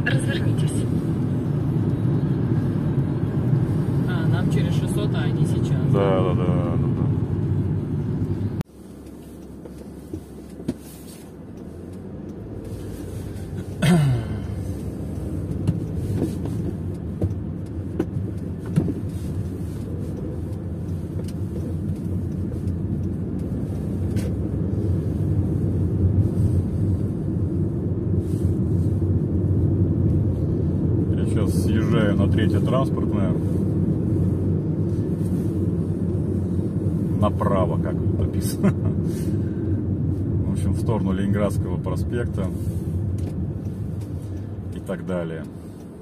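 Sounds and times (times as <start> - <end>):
car road and engine rumble: 0.0 - 46.0.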